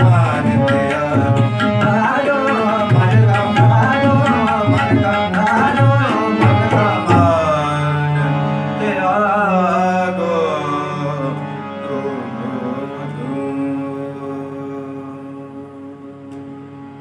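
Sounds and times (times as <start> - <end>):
man singing: 0.0 - 16.4
steady held drone: 0.0 - 17.0.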